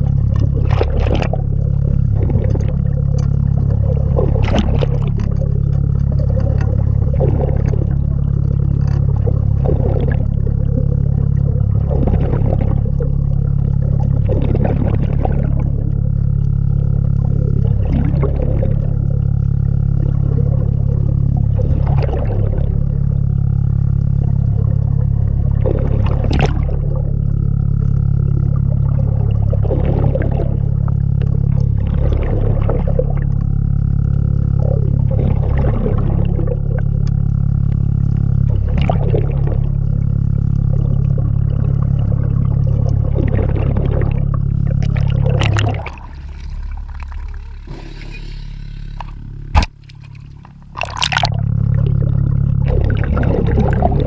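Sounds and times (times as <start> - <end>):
low underwater machine hum: 0.0 - 54.0
rush of air bubbles: 0.0 - 54.0.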